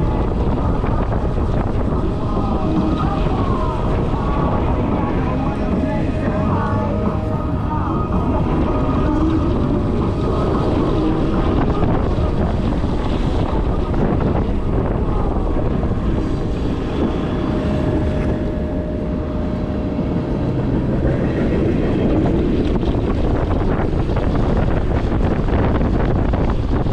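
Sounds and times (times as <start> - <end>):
loud rumbling noise: 0.0 - 26.9.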